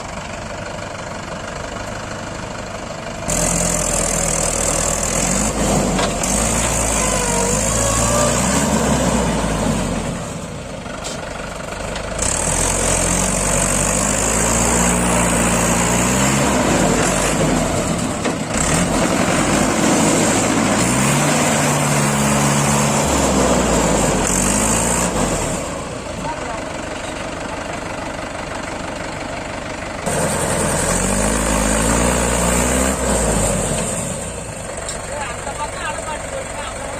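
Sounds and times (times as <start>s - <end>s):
heavy diesel engine revving: 2.8s - 36.9s.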